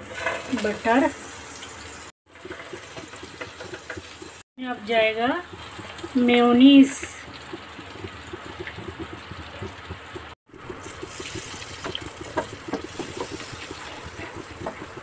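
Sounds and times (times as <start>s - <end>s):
butter sizzling on hot pan: 0.0s - 15.0s
spatula stirring: 2.3s - 15.0s.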